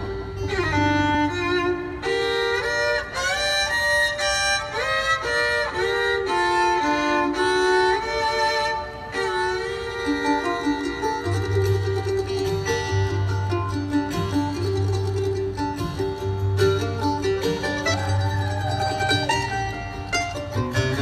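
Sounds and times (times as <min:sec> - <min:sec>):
bluegrass band playing: 0:00.0 - 0:21.0
fiddle melody: 0:00.0 - 0:21.0.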